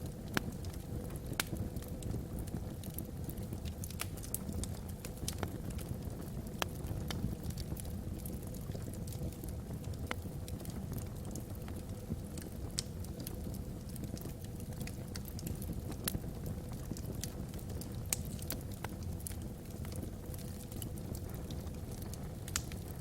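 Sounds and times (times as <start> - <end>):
low rumble of fire: 0.0 - 23.0
wood fire crackling and popping: 0.0 - 23.0.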